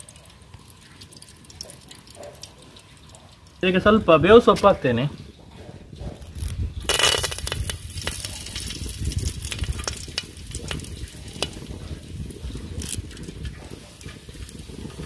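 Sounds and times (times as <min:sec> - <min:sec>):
leaves crackling in hot oil: 0:00.0 - 0:05.0, 0:06.2 - 0:15.0.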